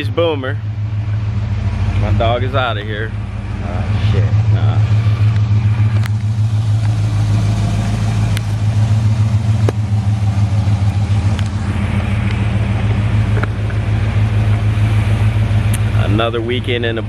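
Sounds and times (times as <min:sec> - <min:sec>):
muffled engine and exhaust drone: 0:00.0 - 0:17.0.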